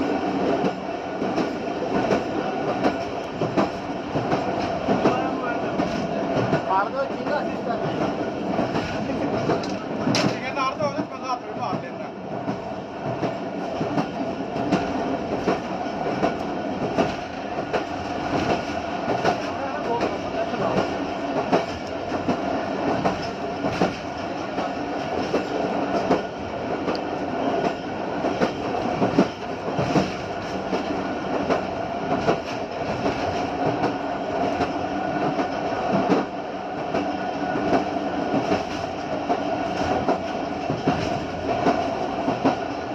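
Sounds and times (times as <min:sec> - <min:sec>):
train wheels rumbling and clacking: 0:00.0 - 0:42.9.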